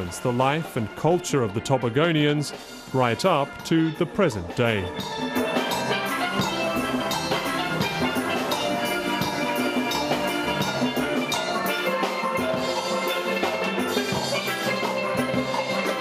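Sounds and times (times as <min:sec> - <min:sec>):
steel pans playing melody: 0:02.1 - 0:16.0
steady percussion beat: 0:02.5 - 0:16.0.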